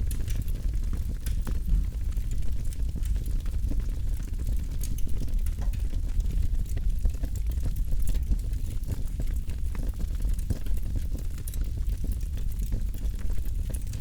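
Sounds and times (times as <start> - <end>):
low rumble of flames: 0.0 - 14.0.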